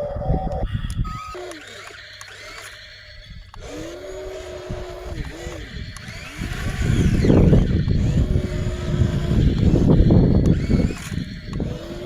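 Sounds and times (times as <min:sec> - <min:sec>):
diesel engine rumbling under load: 0:00.1 - 0:12.0
high metallic squeals: 0:00.6 - 0:12.0.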